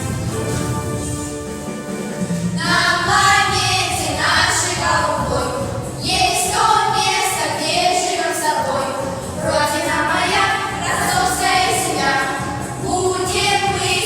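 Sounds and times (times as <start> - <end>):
instrumental backing track: 0.0 - 14.0
young voices singing together: 2.5 - 14.0.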